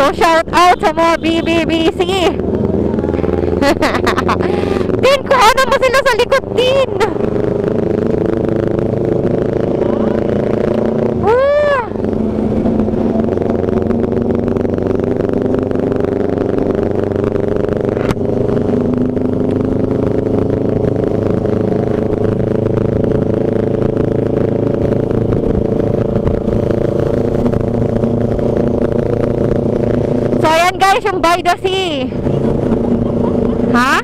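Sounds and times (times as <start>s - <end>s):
motorcycle engine hum: 0.0s - 34.0s
wind and road noise: 0.0s - 34.0s.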